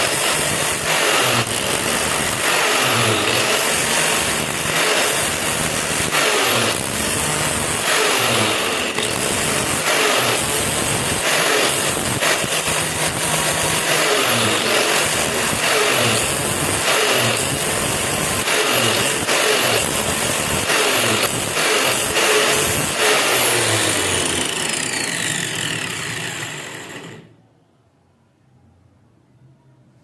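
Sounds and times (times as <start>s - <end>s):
power tool grinding metal: 0.0s - 27.3s.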